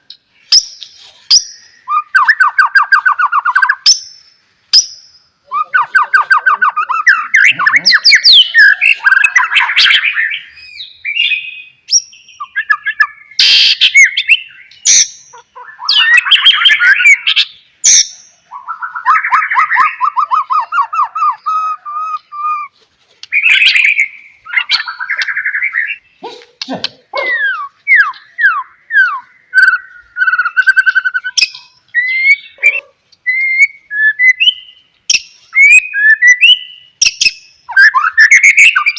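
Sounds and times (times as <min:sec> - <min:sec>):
songbird trills and whistles: 0:00.1 - 0:38.9.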